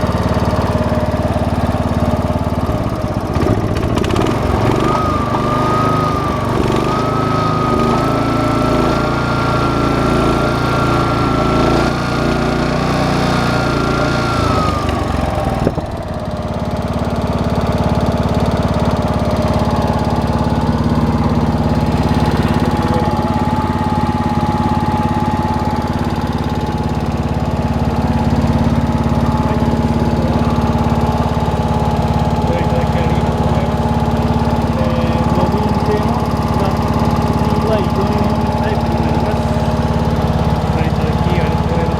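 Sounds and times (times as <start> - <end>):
gasoline engine running: 0.0 - 41.9.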